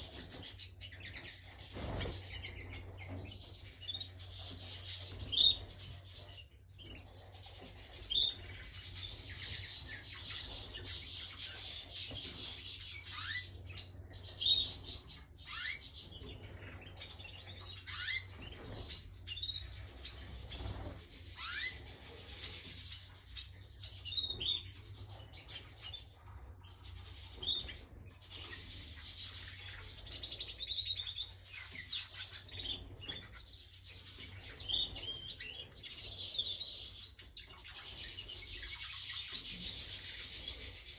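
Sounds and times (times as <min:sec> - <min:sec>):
canary singing and chirping: 0:00.0 - 0:40.9.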